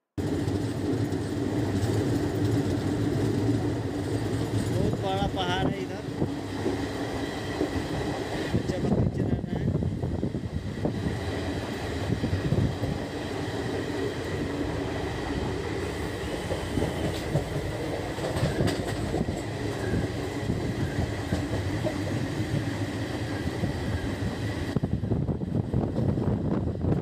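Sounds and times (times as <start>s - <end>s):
train wheels rumbling on rails: 0.2s - 27.0s.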